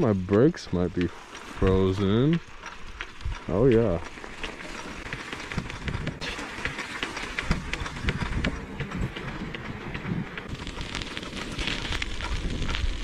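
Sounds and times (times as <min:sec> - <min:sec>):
bicycle tyres rumbling on snow: 0:00.0 - 0:13.0.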